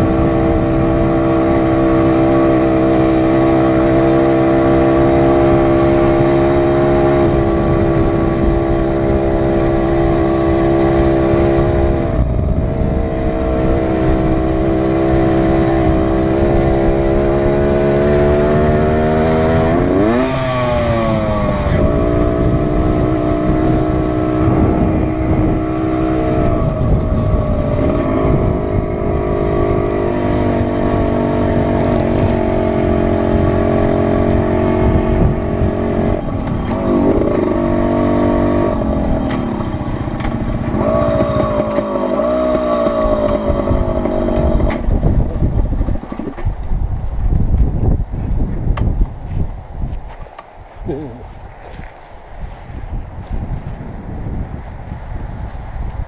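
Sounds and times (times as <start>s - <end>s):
dirt bike engine running: 0.0s - 56.0s
wind and trail noise: 0.0s - 56.0s.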